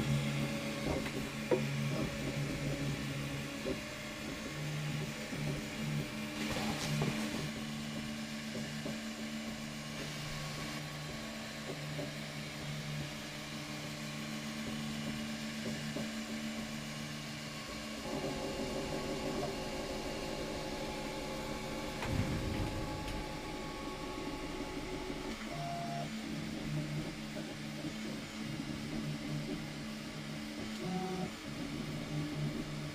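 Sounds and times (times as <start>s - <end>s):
printer stepper motors humming: 0.0s - 32.9s.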